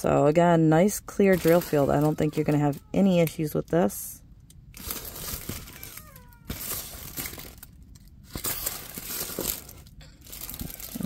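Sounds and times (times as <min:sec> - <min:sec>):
plastic film crinkling: 0:01.2 - 0:03.9, 0:04.7 - 0:11.0.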